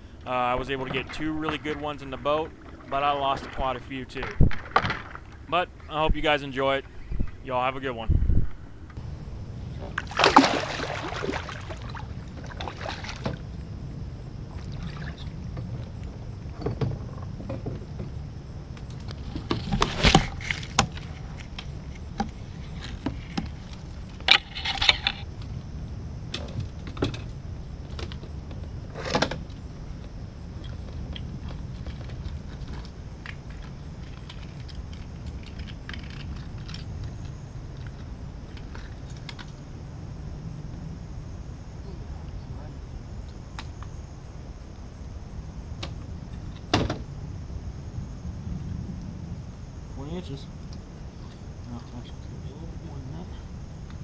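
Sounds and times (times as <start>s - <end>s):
steady low rumble: 0.0s - 19.5s, 20.3s - 54.0s.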